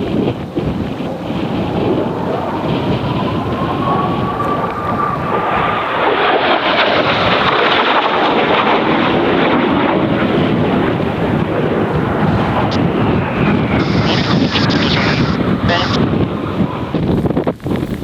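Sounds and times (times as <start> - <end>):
jet planes roaring past: 0.0 - 18.0
wind buffeting microphone: 0.0 - 18.0.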